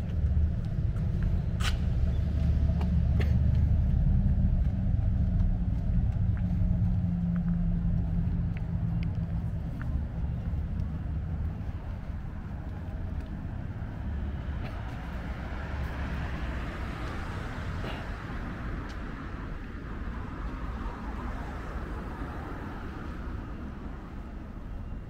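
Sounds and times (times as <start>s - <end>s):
rumble of passing cars: 0.0s - 25.0s
vehicle passing by: 0.0s - 25.0s.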